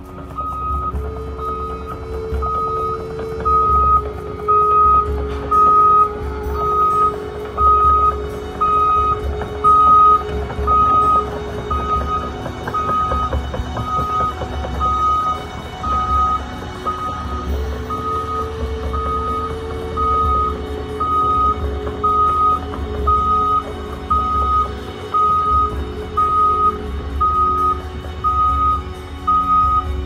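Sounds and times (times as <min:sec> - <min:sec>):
diesel engine running: 0:00.0 - 0:30.0
warning alarm beeping: 0:00.1 - 0:29.9.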